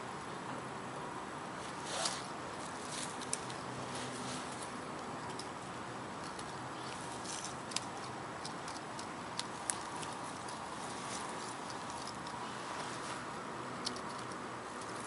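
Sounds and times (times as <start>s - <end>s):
outdoor background noise: 0.0s - 15.0s
dry grass and leaves crackling: 1.6s - 15.0s.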